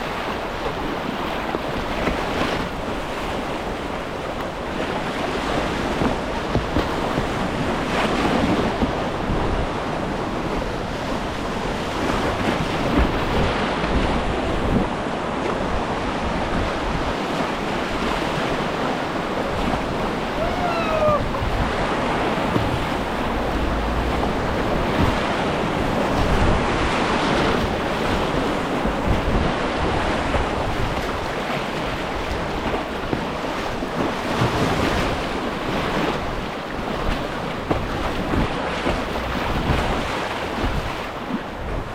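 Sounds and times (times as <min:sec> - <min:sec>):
whitewater rushing and splashing: 0:00.0 - 0:41.9
wind buffeting microphone: 0:00.0 - 0:41.9.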